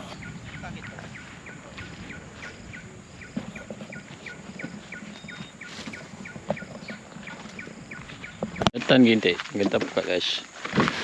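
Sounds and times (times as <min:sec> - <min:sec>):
high-pitched insect drone: 0:00.0 - 0:10.6.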